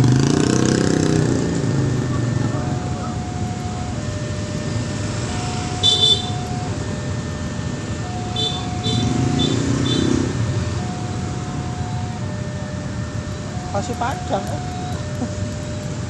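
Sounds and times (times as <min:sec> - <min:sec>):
motorbikes humming: 0:00.0 - 0:16.0
two-tone crossing alarm: 0:00.0 - 0:16.0.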